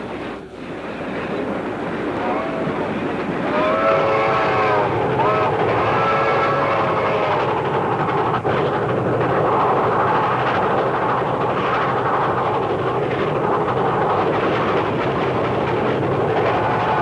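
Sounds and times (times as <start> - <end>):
moving train running: 0.0 - 17.0.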